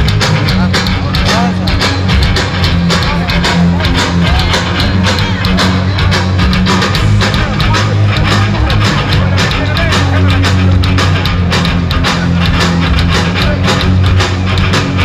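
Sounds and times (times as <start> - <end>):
electric guitar: 0.0 - 15.0
rock band playing: 0.0 - 15.0.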